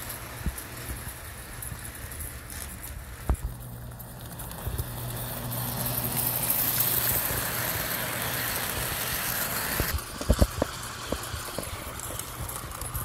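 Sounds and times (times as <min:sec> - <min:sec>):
toy train motor whirring: 0:00.0 - 0:13.0
wheels clacking over track joints: 0:00.0 - 0:13.0.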